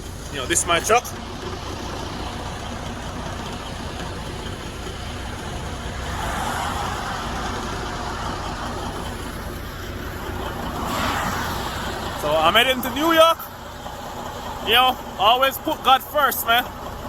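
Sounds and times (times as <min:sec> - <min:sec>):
roadway noise: 0:00.0 - 0:17.0
truck engine rumble: 0:00.0 - 0:17.0.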